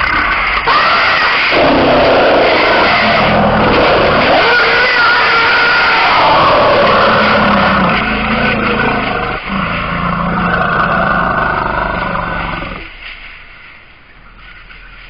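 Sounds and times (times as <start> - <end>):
elephants trumpeting: 0.0 - 13.0.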